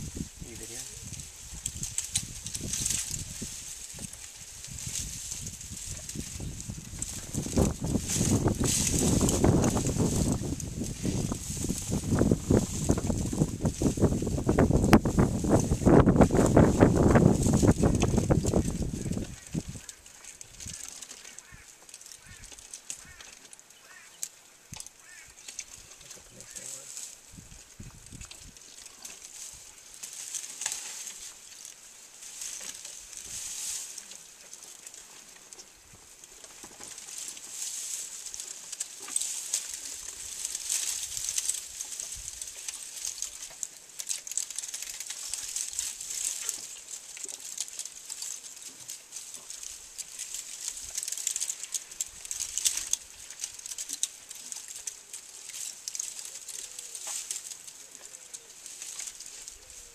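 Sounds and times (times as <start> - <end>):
branches rustling: 0.0 - 59.9
twigs snapping: 0.1 - 59.9.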